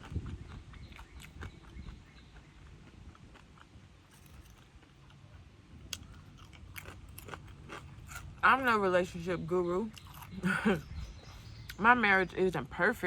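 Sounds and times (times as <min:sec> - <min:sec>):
person chewing food: 0:00.0 - 0:08.8, 0:09.9 - 0:11.8.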